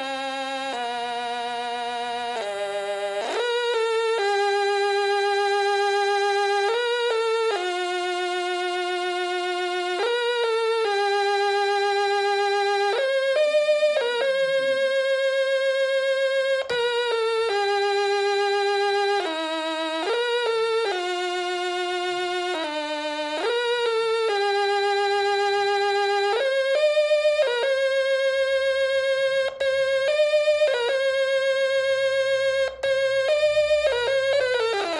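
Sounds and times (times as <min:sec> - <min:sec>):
stylophone melody: 0:00.0 - 0:34.9.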